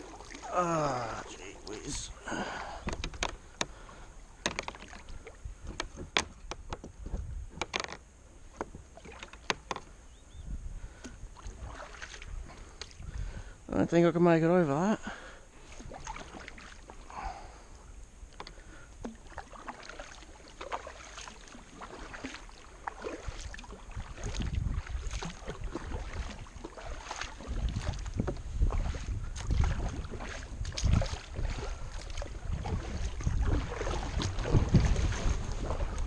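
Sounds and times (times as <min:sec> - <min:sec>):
kayak paddle splashing: 0:00.0 - 0:13.6, 0:15.0 - 0:36.0
water noise: 0:00.0 - 0:36.0.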